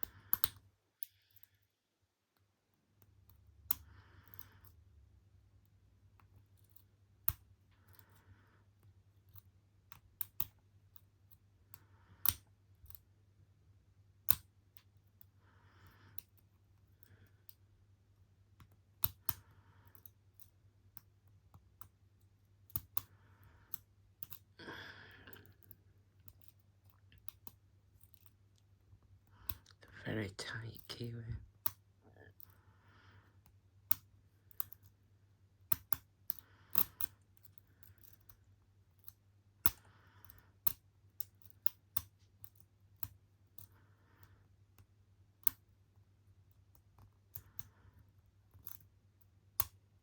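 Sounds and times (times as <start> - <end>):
lock picks clicking and scraping: 0.0 - 1.7, 5.6 - 13.2, 14.2 - 24.6, 25.2 - 29.7, 33.2 - 50.0.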